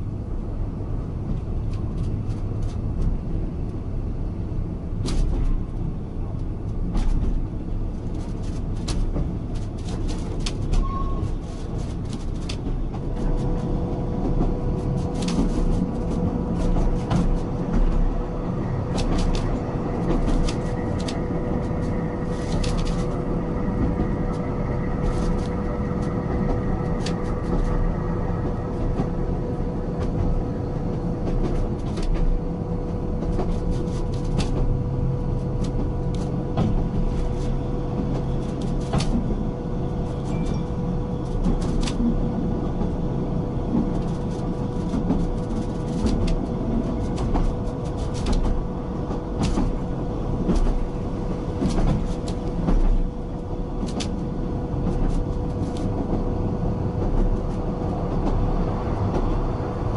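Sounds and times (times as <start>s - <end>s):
train wheels rumbling on rails: 0.0s - 59.9s
steady hum: 7.6s - 59.9s.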